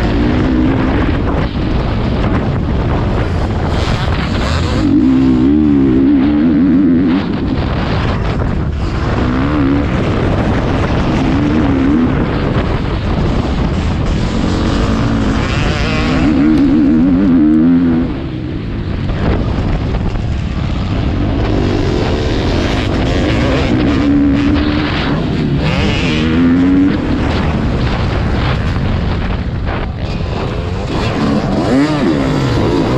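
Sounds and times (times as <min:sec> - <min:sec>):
constant rushing noise: 0:00.0 - 0:32.9
motocross bike engine revving: 0:00.0 - 0:32.9.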